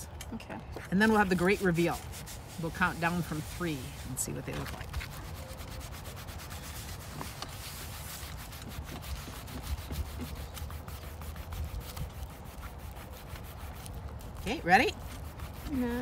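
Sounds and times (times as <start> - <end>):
hands rubbing on paper: 1.0 - 16.0.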